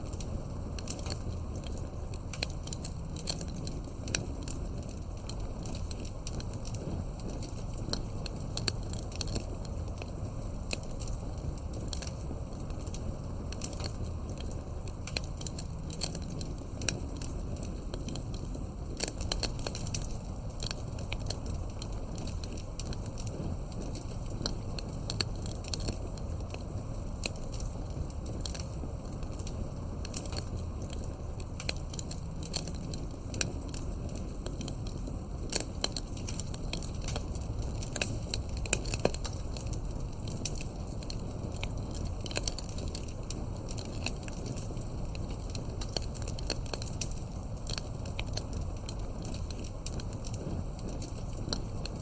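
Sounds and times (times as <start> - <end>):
low rumble of flame: 0.0 - 52.0
wood crackling and popping: 0.0 - 52.0.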